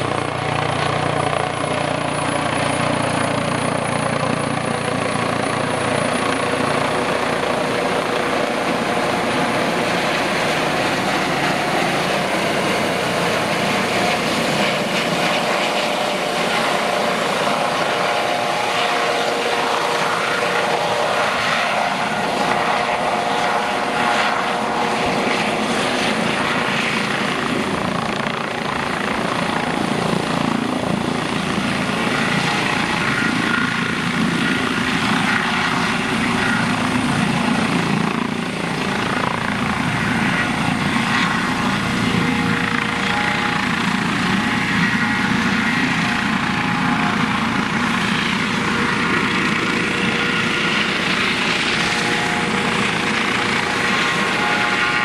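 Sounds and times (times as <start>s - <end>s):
helicopter rotor and engines: 0.0s - 55.0s
steady turbine whine: 0.0s - 55.0s.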